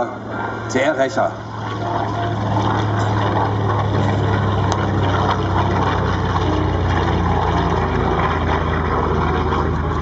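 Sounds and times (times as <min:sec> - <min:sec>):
propeller aircraft engine droning: 0:00.0 - 0:10.0.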